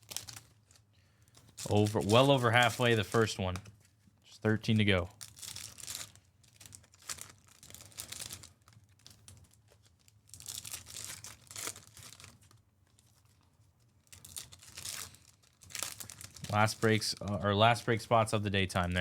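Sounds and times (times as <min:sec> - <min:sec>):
card pack wrappers tearing: 0:00.0 - 0:00.8, 0:01.4 - 0:03.7, 0:05.2 - 0:13.2, 0:14.0 - 0:18.4.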